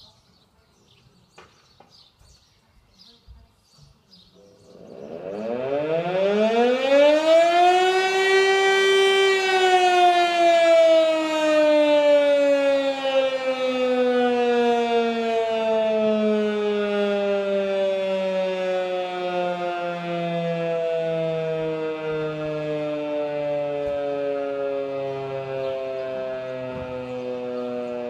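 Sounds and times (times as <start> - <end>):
electric motor siren wailing: 4.8 - 28.0.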